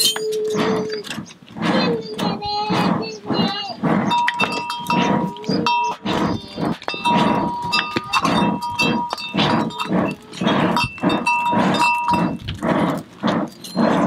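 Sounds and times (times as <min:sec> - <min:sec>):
forge bellows puffing: 0:00.0 - 0:14.0.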